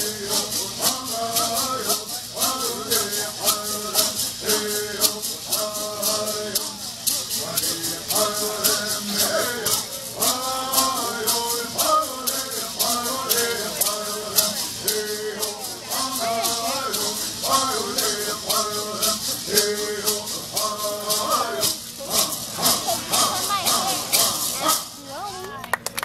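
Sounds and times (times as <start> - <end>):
voices singing: 0.0 - 25.1
gourd rattles shaken: 0.0 - 26.0.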